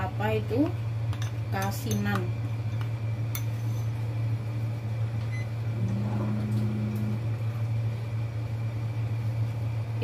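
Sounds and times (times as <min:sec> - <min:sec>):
kitchen appliance electric hum: 0:00.0 - 0:10.0.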